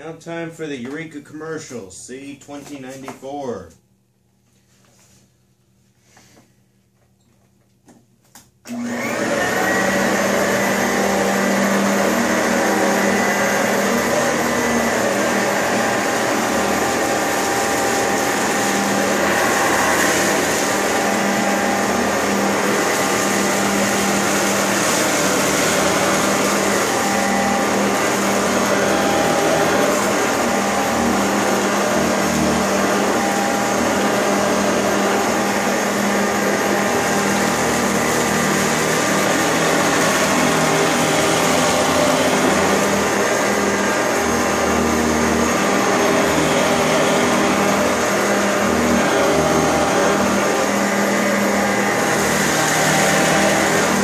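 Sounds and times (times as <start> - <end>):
vacuum cleaner running: 8.4 - 54.0.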